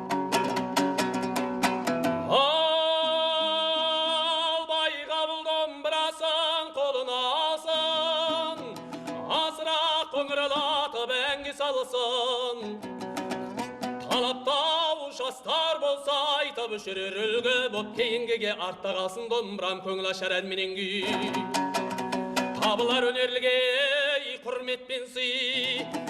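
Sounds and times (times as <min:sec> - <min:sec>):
lute strumming: 0:00.0 - 0:05.3, 0:05.9 - 0:20.0, 0:20.8 - 0:23.9, 0:25.4 - 0:26.0
person singing with vibrato: 0:02.3 - 0:21.6, 0:22.4 - 0:26.0.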